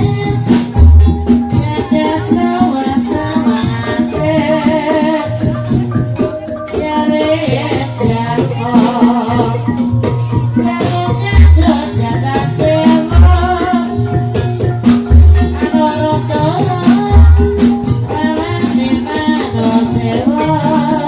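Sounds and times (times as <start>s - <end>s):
person singing: 0.0s - 21.0s
rattling percussion: 0.0s - 21.0s
struck metal melody instruments: 0.0s - 21.0s.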